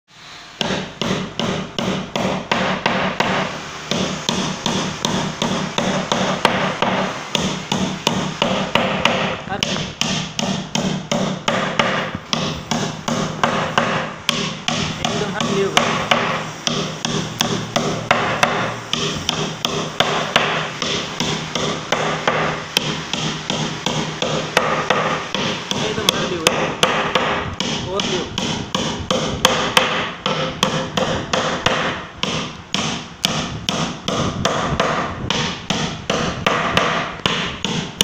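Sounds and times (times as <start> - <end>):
hammer driving nails into wood: 0.6 - 38.0.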